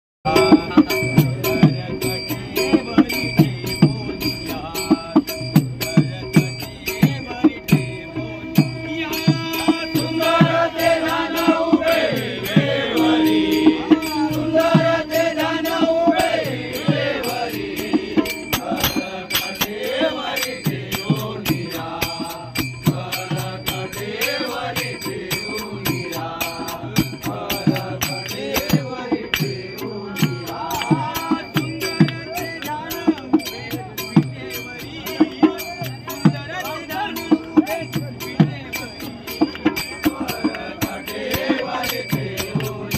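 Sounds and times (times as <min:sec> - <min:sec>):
drum strokes: 0:00.3 - 0:42.9
man singing devotional song: 0:00.3 - 0:42.9
small hand cymbals: 0:00.3 - 0:42.9.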